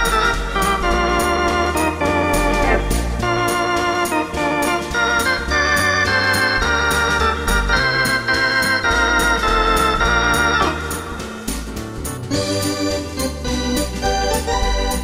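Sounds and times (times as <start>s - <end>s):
electronic organ playing pop: 0.0s - 15.0s
percussion beat: 0.0s - 15.0s.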